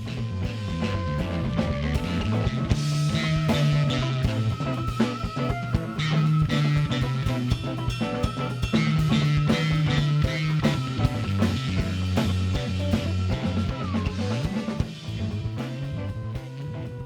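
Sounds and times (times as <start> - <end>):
bass line: 0.0 - 17.0.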